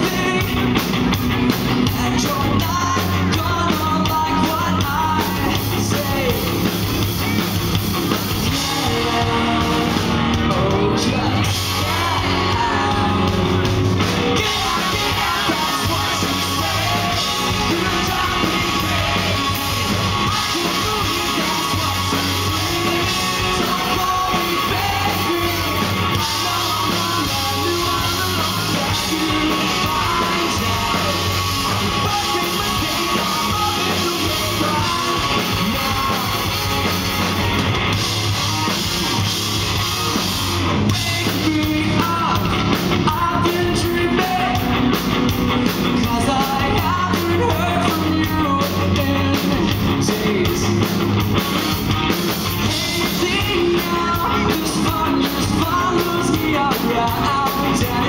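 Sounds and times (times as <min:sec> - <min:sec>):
bass guitar: 0:00.0 - 0:58.0
drums: 0:00.0 - 0:58.0
electric guitars: 0:00.0 - 0:58.0
person singing: 0:01.8 - 0:06.6, 0:08.4 - 0:36.8, 0:40.9 - 0:44.8, 0:45.9 - 0:51.0, 0:52.6 - 0:58.0.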